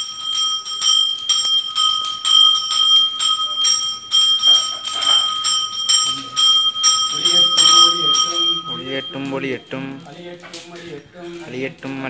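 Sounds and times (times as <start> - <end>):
bell rung continuously: 0.0 - 11.3.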